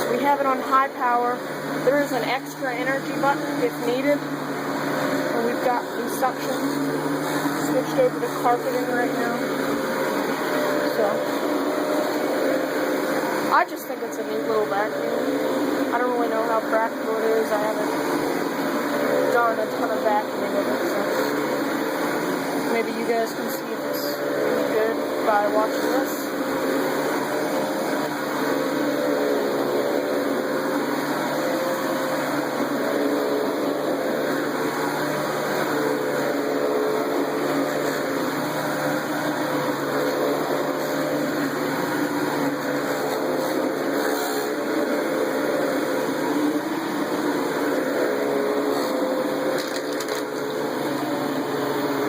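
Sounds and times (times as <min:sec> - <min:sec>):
vacuum cleaner running on carpet: 0:00.0 - 0:52.0.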